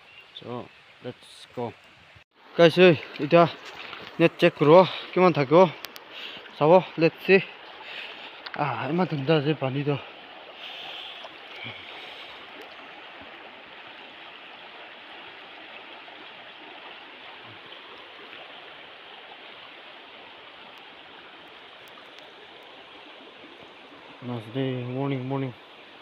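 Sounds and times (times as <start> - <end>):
river water rushing: 0.8 - 26.0.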